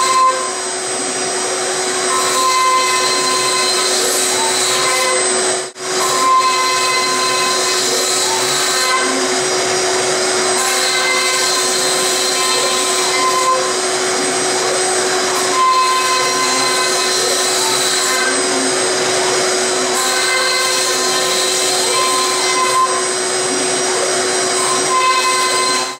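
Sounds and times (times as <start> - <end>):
milling machine spindle whine: 0.0 - 25.9.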